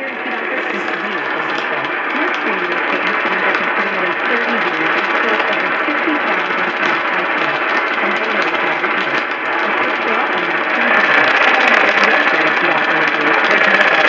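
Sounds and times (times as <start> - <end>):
faint voice-like sounds: 0.0 - 14.0
radio static hiss: 0.0 - 14.0.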